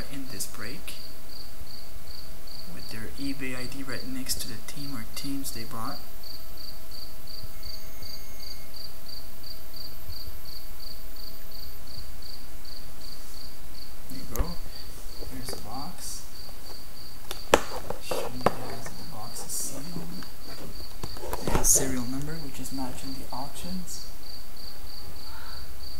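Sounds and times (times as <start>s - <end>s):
insect chirping: 0.0s - 25.9s.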